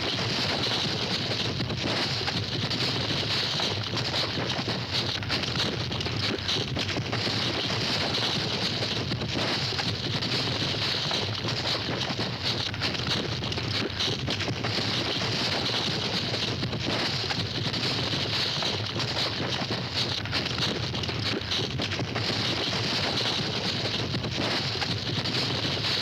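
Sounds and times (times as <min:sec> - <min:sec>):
cattle hoofbeats stampeding: 0:00.0 - 0:26.0.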